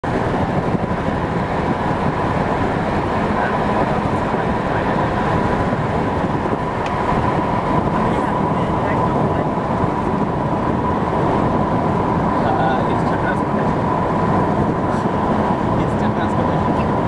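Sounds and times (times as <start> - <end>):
tyre and engine rumble: 0.0 - 17.0
thin steady whine: 0.1 - 17.0.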